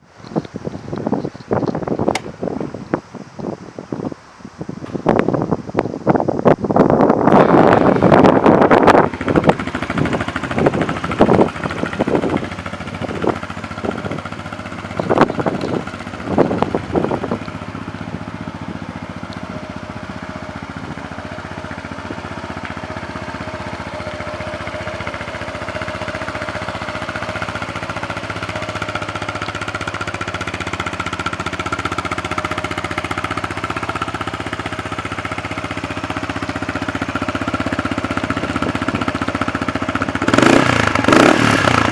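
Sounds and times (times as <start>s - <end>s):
scooter engine running: 6.7s - 41.9s.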